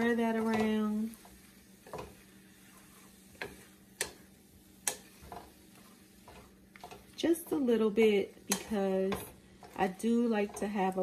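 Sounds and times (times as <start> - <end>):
wooden spatula tapping skillet: 0.0 - 11.0.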